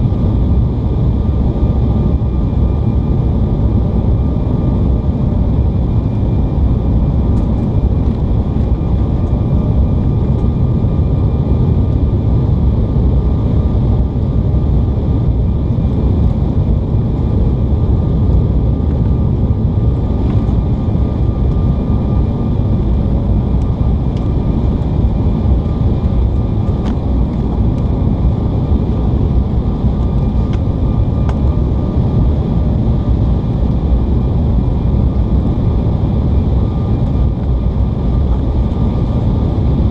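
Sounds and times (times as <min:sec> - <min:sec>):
jet cabin airflow and engine rush: 0:00.0 - 0:39.9.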